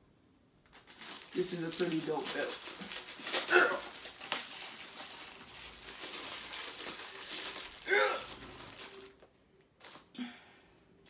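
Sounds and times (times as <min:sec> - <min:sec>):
plastic wrapping crinkling: 0:00.6 - 0:10.2.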